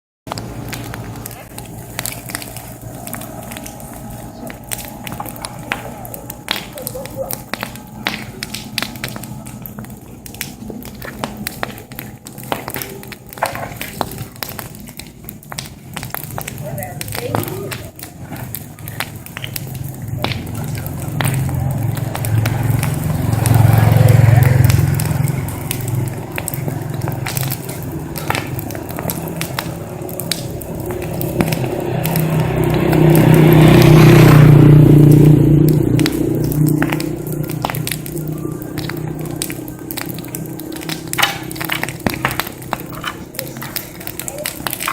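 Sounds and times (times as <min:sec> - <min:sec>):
wood fire crackling and popping: 0:00.2 - 0:44.9
steady low hum: 0:00.3 - 0:44.4.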